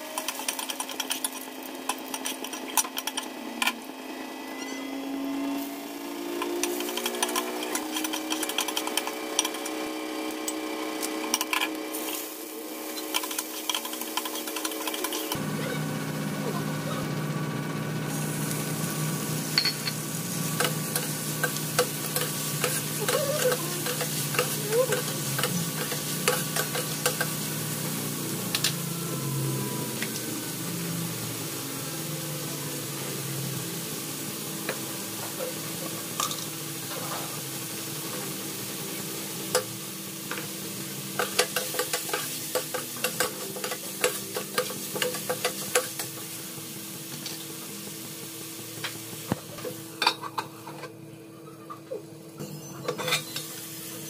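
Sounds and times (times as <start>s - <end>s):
vegetables sizzling in a pan: 0.0s - 4.4s, 5.4s - 50.8s, 52.9s - 54.0s.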